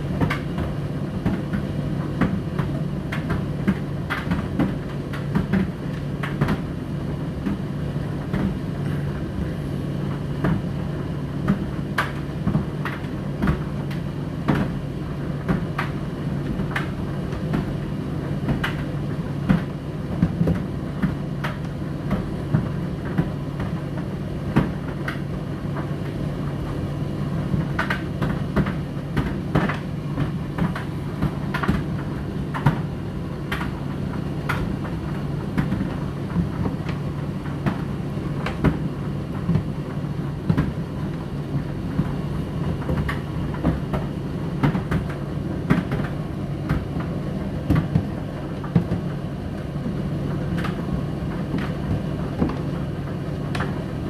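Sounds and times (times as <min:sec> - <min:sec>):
tumble dryer hum: 0:00.0 - 0:54.0.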